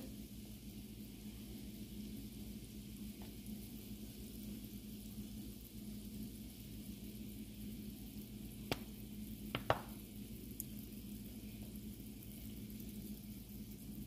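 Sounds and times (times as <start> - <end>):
butter and garlic sizzling in pan: 0.0 - 14.0.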